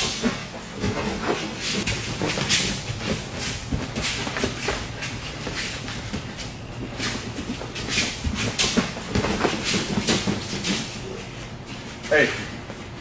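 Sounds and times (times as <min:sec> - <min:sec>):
bare feet scuffing on mat: 0:00.8 - 0:12.8.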